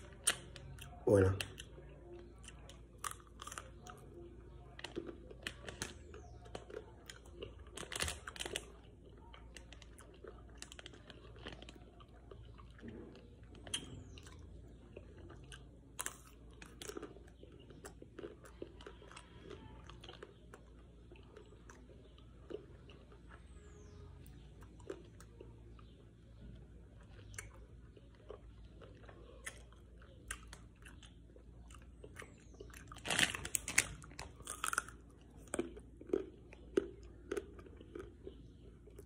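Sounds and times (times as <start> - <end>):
chewing and crunching: 0.0 - 39.0.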